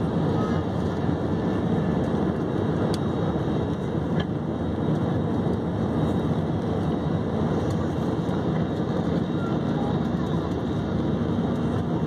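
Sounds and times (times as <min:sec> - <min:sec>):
jet engine cabin noise: 0:00.0 - 0:12.0.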